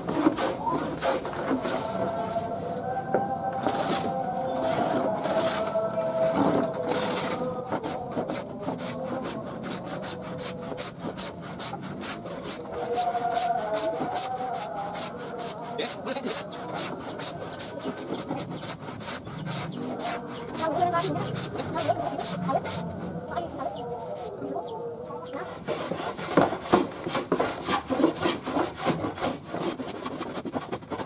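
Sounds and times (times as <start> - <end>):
hand plane rasping on wood: 0.0 - 2.6, 3.6 - 23.4, 25.3 - 31.0.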